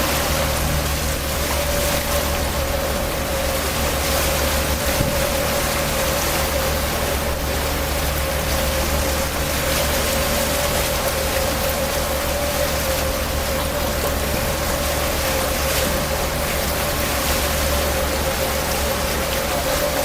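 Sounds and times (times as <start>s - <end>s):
boat engine hum: 0.0s - 20.0s
rushing water and wind: 0.0s - 20.0s.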